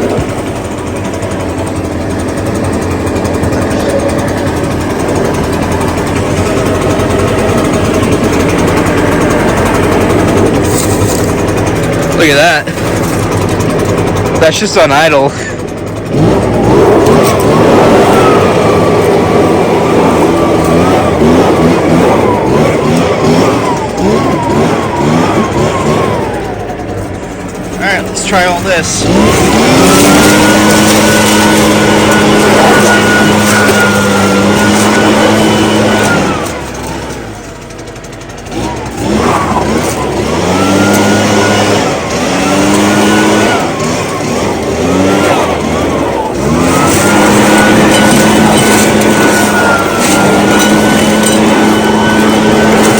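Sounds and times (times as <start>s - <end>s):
leaf blower engine running: 0.0s - 52.9s.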